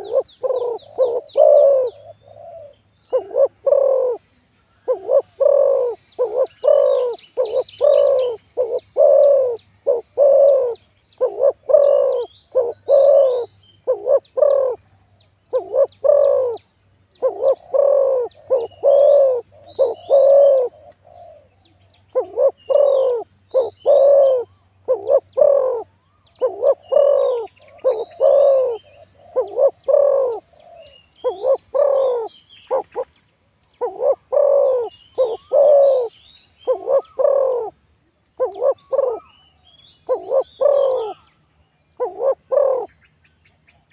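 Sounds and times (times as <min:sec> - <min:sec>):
doves cooing: 0:00.0 - 0:16.6, 0:17.2 - 0:33.2, 0:33.8 - 0:37.8, 0:38.4 - 0:39.4, 0:40.1 - 0:41.4, 0:42.0 - 0:43.0.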